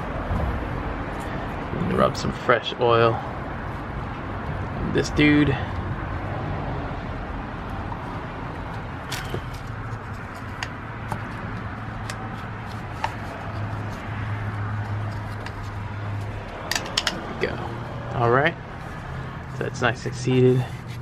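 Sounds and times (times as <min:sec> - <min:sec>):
outdoor background hum: 0:00.0 - 0:21.0.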